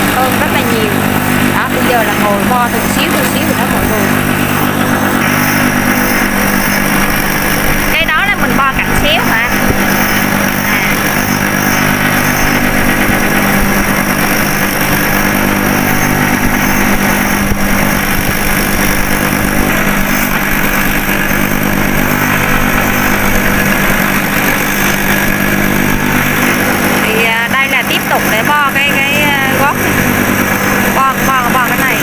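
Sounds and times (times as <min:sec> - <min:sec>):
drum sander grinding: 0:00.0 - 0:32.0.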